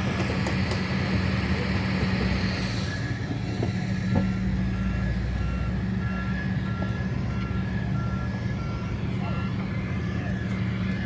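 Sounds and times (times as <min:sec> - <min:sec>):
diesel engine running: 0:00.0 - 0:11.0
reversing alarm beeping: 0:01.1 - 0:11.0.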